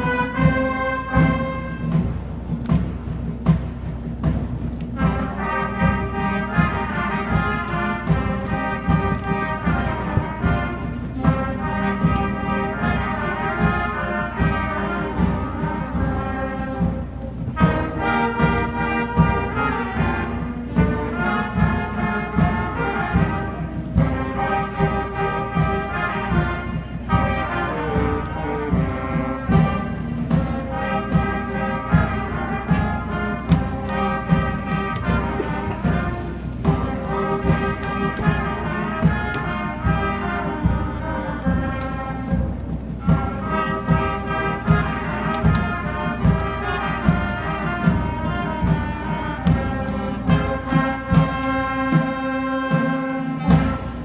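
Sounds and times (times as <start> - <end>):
concert band playing: 0.0 - 54.0
steady percussion beat: 0.0 - 54.0.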